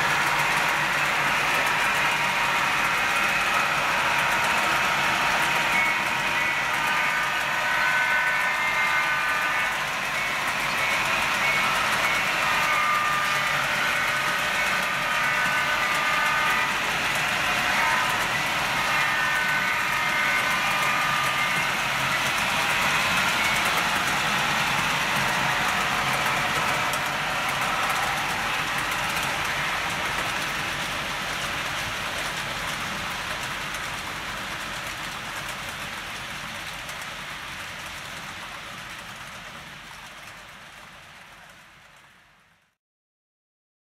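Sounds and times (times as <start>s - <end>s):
model train rolling: 0.0s - 42.6s.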